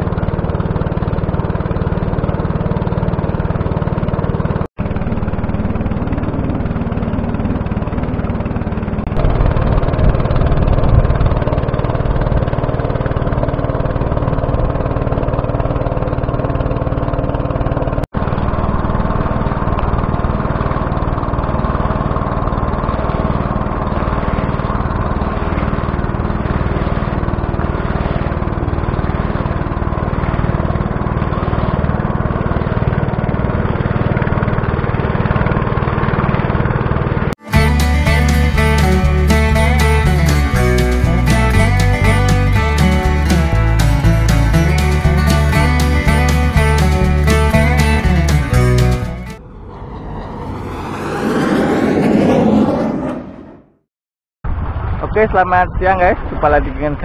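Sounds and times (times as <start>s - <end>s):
outboard motor running: 0.0s - 49.2s.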